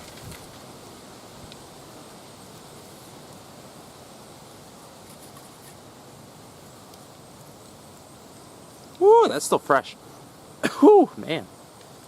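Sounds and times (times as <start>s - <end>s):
leaves rustling: 0.0s - 12.0s
wind: 0.0s - 12.0s.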